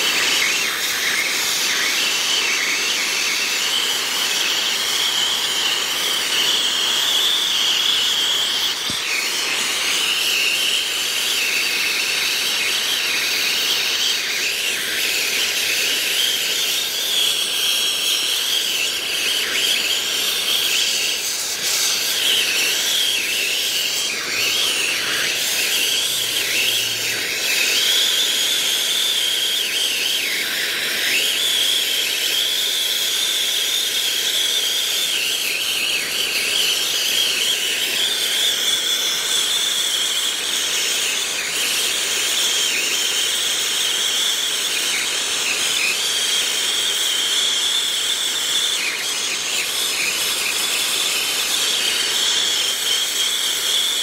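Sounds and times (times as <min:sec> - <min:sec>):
high wavering whistle: 0:00.0 - 0:54.0
torch flame hissing: 0:00.0 - 0:54.0.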